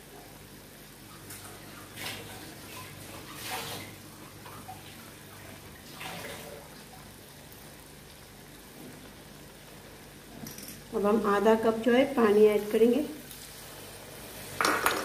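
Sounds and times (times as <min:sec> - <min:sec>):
food bubbling and sizzling: 0:00.0 - 0:15.0.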